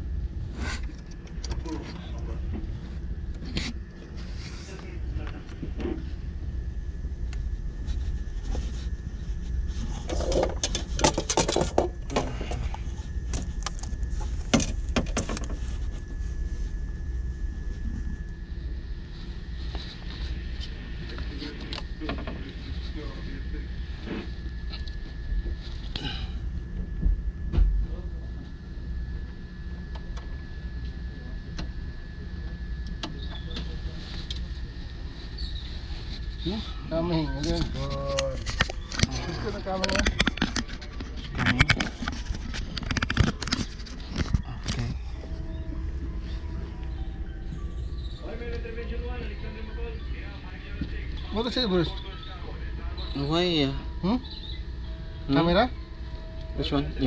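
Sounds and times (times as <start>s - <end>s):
low machinery drone: 0.0s - 57.0s.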